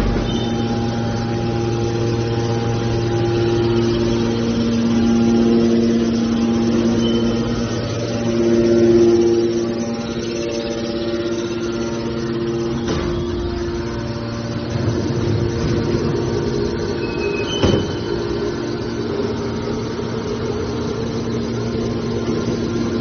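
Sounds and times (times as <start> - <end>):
hydraulic pump motor humming: 0.0 - 23.0.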